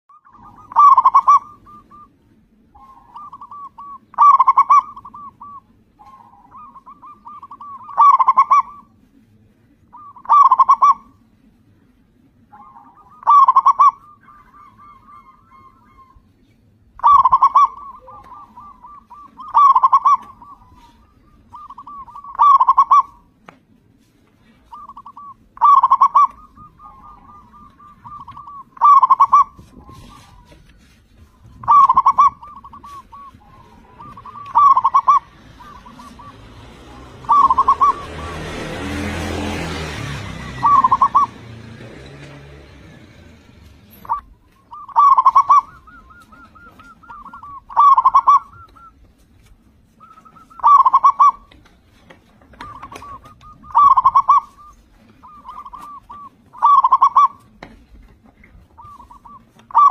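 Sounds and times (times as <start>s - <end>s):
dove cooing: 0.1s - 9.0s, 9.9s - 11.3s, 12.4s - 16.4s, 17.0s - 23.4s, 24.4s - 49.2s, 49.9s - 59.9s.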